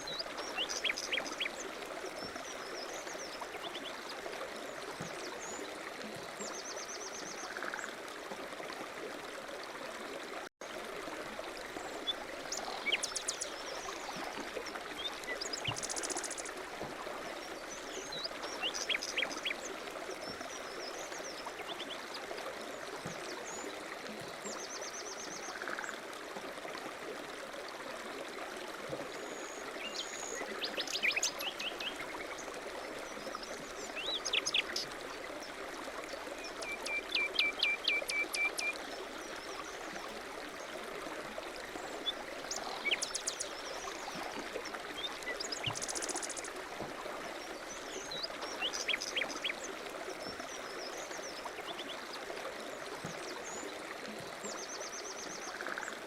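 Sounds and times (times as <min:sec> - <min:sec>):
stream running water: 0:00.0 - 0:56.0.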